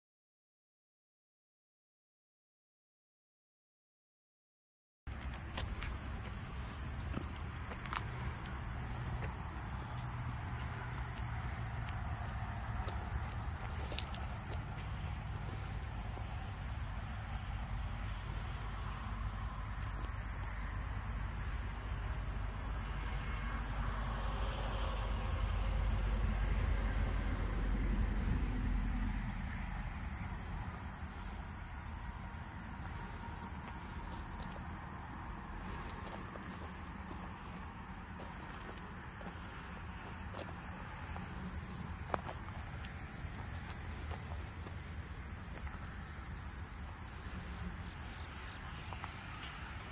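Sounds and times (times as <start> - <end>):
insects chirring: 5.1 - 49.9.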